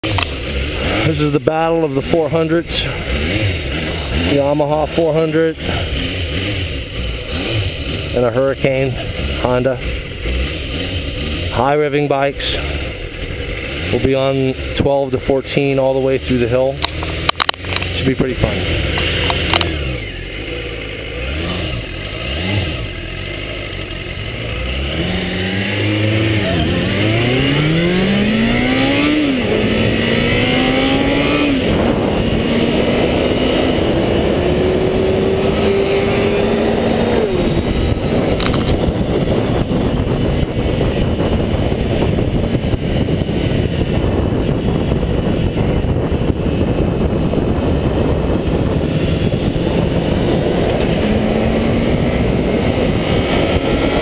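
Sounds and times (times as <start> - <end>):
motorcycle engine revving hard: 0.0 - 54.0
rush of noise at speed: 0.0 - 54.0.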